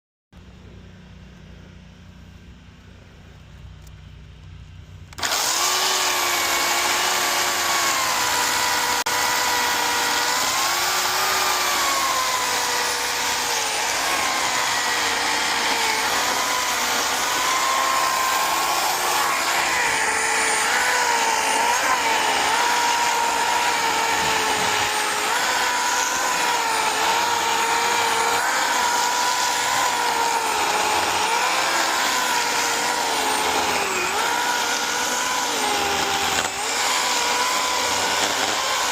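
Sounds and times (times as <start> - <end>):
chainsaw cutting wood: 5.1 - 38.9.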